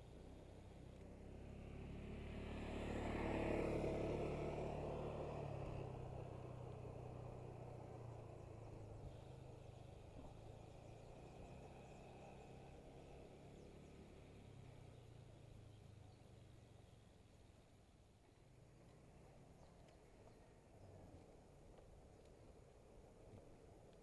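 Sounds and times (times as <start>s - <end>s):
motor vehicle passing by: 0.0s - 23.9s.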